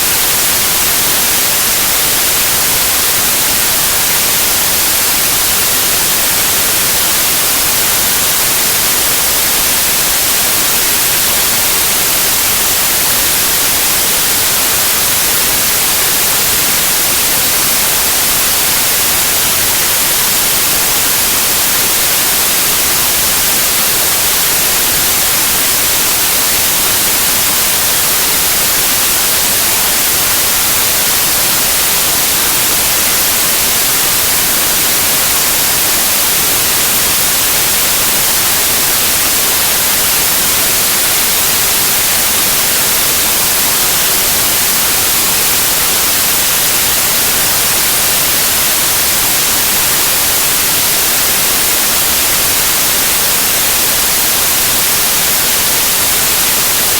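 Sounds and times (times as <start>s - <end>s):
white noise hiss: 0.0s - 56.9s.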